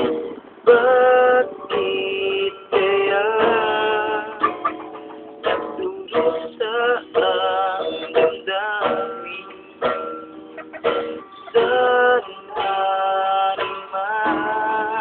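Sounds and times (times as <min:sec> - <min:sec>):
man singing: 0:00.0 - 0:04.8, 0:05.5 - 0:10.1, 0:11.4 - 0:15.0
acoustic guitar: 0:00.0 - 0:15.0.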